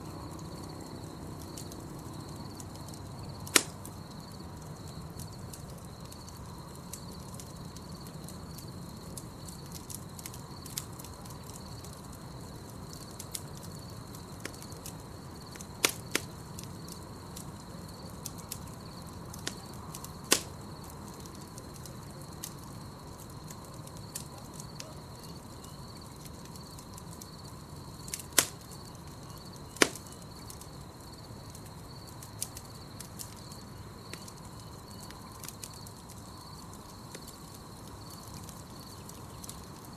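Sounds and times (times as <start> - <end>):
campfire burning and popping: 0.0 - 39.9
night insects trilling: 0.0 - 39.9.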